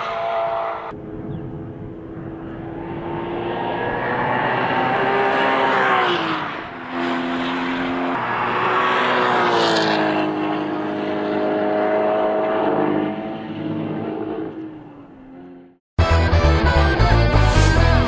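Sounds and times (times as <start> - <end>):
race car passing at high revs: 0.0 - 15.8.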